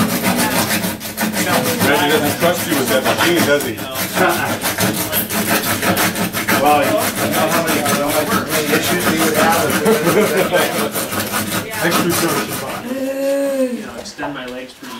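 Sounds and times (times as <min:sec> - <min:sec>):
hand saw cutting wood: 0:00.0 - 0:13.5.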